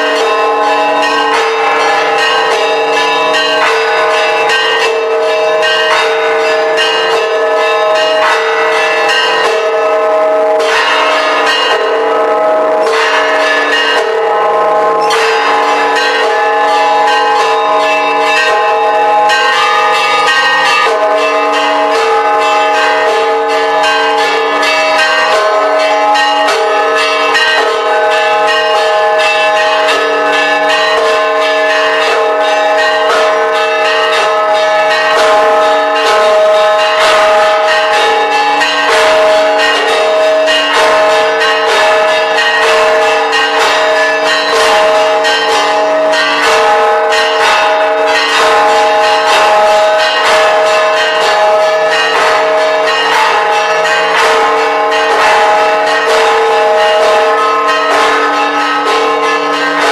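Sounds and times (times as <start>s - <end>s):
church bells ringing a peal: 0.0s - 59.9s.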